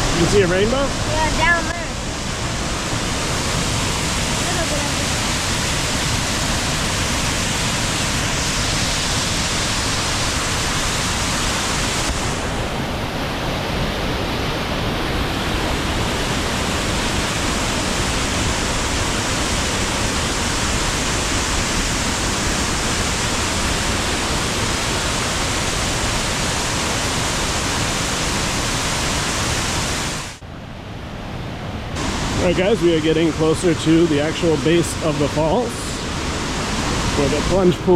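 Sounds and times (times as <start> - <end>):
waterfall rushing: 0.0 - 30.4, 31.2 - 37.9.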